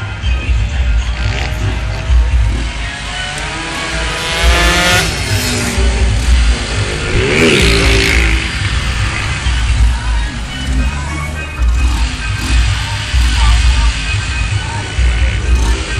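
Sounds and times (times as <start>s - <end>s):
bass-heavy music: 0.0s - 15.9s
motorcycle engine revving: 0.4s - 15.9s.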